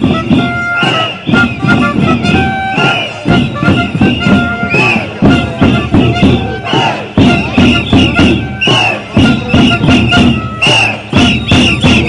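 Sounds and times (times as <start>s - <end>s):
folk music with quick beat: 0.0s - 12.0s.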